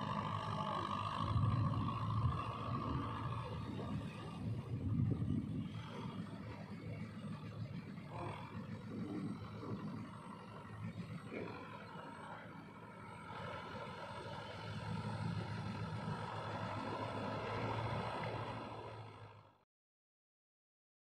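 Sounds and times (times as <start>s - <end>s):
tractor engine droning: 0.0s - 19.6s.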